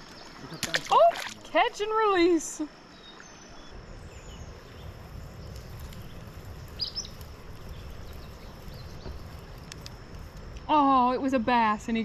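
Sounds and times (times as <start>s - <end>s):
faint hiss: 1.8s - 12.0s.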